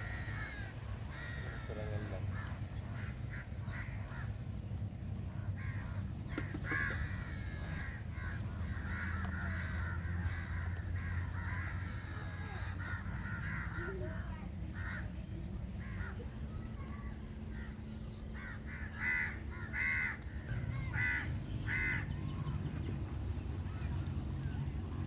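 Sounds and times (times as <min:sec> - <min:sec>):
birds calling: 0:00.0 - 0:25.0
steady low hum: 0:00.0 - 0:25.0.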